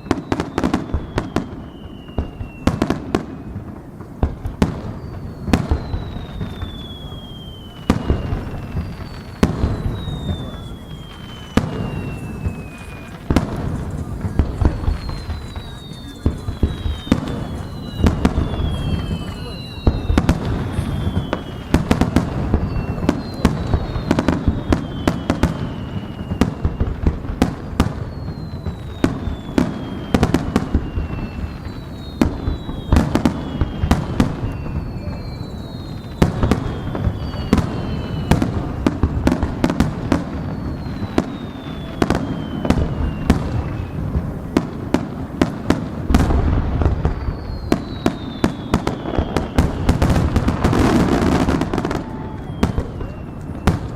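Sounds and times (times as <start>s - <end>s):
fireworks booms and cracks: 0.0s - 53.9s
fireworks whistles falling in pitch: 0.0s - 53.9s.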